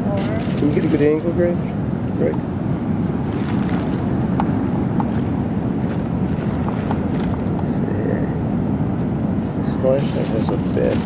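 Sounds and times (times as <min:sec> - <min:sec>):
low rumbling wind noise: 0:00.0 - 0:11.0.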